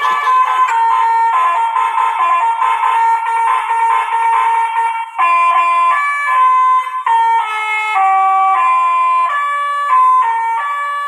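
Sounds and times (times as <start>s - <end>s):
horn playing a melody: 0.0s - 11.0s.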